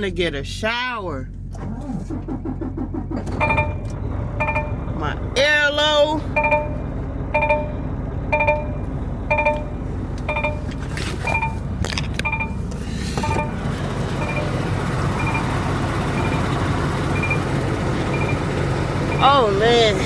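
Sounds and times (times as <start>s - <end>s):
truck engine running: 0.0s - 20.0s
truck warning beeping: 2.1s - 20.0s.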